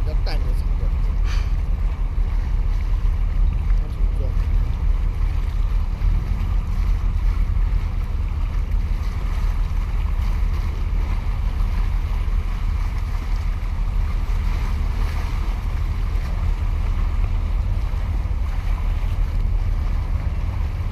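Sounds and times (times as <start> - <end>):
water washing against concrete: 0.0 - 20.9
wind buffeting microphone: 0.0 - 20.9.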